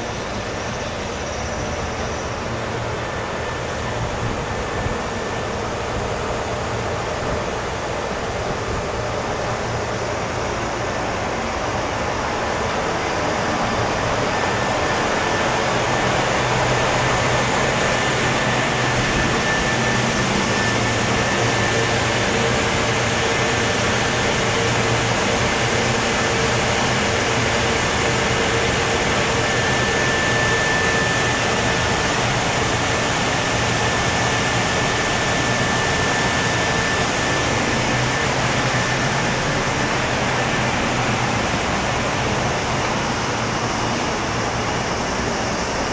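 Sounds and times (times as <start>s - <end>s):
thin steady whine: 0.0s - 45.9s
train air conditioners humming: 0.0s - 45.9s.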